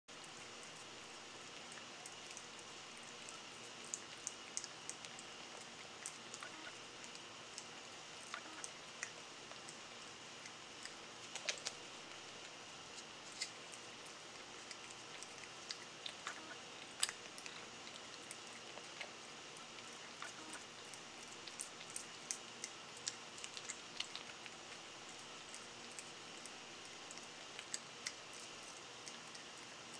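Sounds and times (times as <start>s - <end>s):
faint steady hiss: 0.1s - 29.9s
cat licking: 0.2s - 29.9s.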